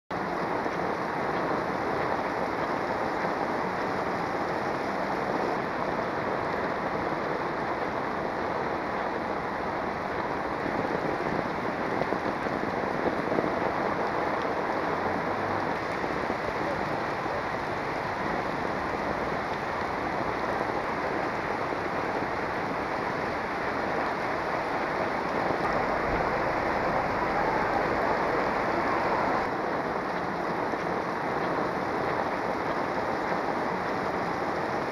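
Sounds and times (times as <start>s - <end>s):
heavy rain on paved street: 0.1s - 34.9s.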